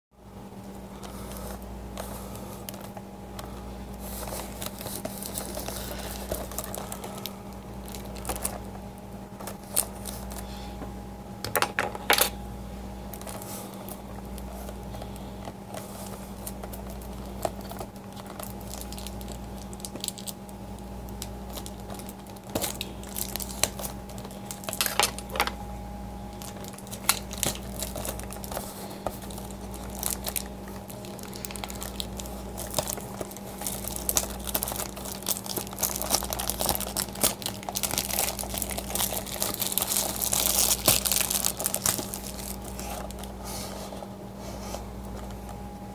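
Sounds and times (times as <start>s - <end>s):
steady low hum: 0.2s - 45.9s
plastic shrink wrap crinkling: 0.9s - 10.6s, 13.0s - 44.1s.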